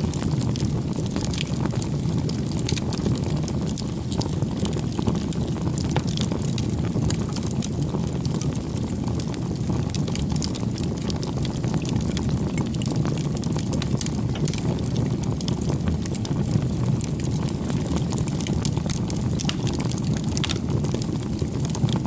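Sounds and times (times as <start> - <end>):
campfire flame rushing: 0.0 - 22.0
fire crackles and pops: 0.0 - 22.0.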